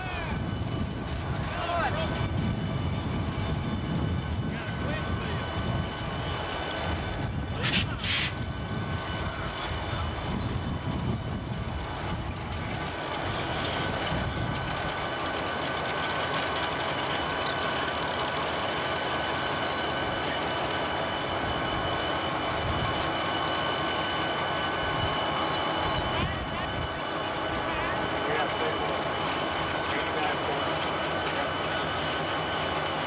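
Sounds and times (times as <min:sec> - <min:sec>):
diesel locomotives rumbling past: 0:00.0 - 0:33.0.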